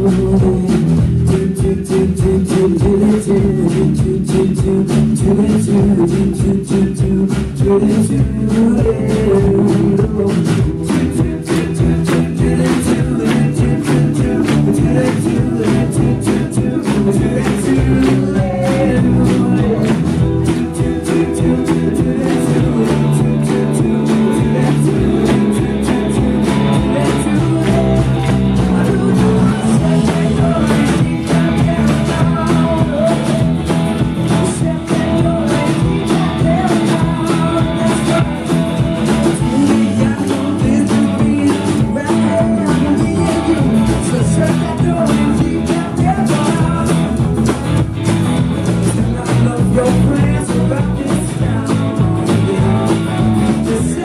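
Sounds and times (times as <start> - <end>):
person singing: 0.0 - 47.4, 48.8 - 54.0
acoustic guitar: 0.0 - 54.0
drum kit beat: 0.0 - 54.0
electric bass: 0.0 - 54.0.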